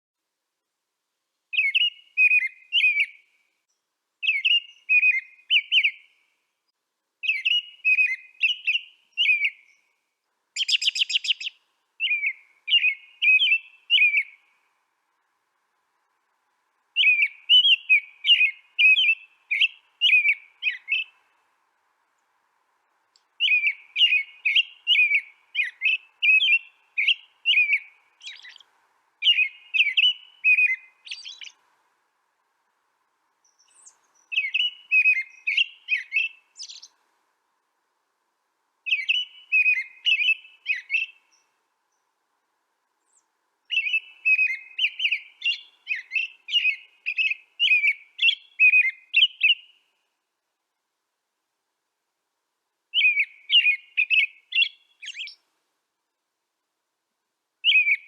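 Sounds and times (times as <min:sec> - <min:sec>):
songbird chirping: 0:01.3 - 0:50.8, 0:52.7 - 0:55.7, 0:57.5 - 0:58.0.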